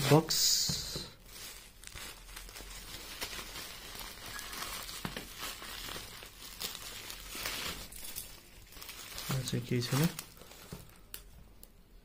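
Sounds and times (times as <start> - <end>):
bubble wrap crinkling: 0.0 - 11.7.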